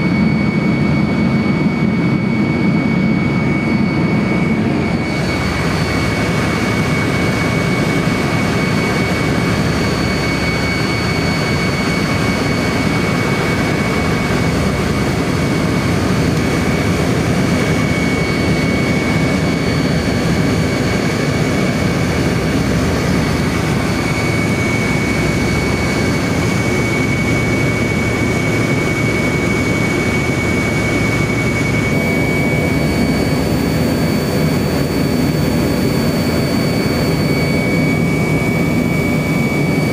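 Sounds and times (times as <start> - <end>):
jet engine high whine: 0.0 - 39.9
jet engine rushing noise: 0.0 - 39.9.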